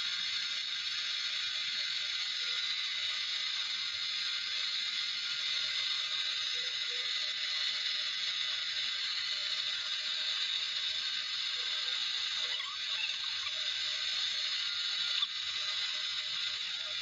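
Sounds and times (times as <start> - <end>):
steady mechanical hiss: 0.0 - 17.0.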